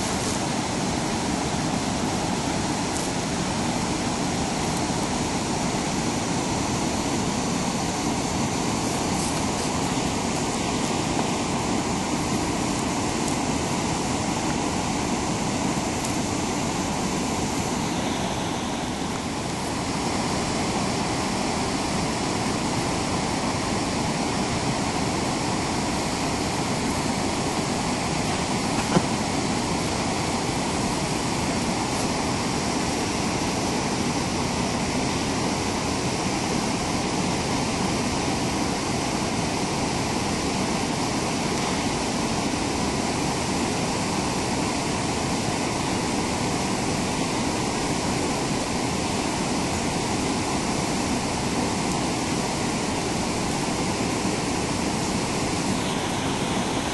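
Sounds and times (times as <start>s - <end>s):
river rapids rushing over rocks: 0.0s - 56.9s.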